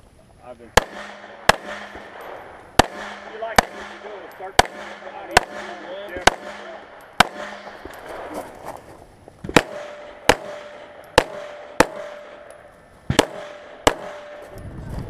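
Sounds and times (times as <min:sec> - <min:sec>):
pistol shots: 0:00.6 - 0:08.4, 0:09.4 - 0:14.4.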